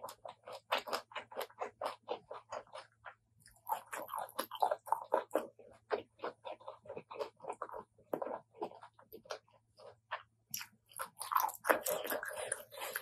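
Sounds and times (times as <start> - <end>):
close chewing and crunching: 0.0 - 13.0.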